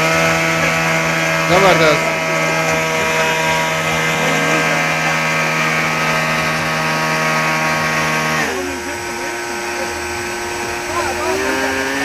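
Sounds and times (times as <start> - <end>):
electric motor propeller whine: 0.0 - 12.0.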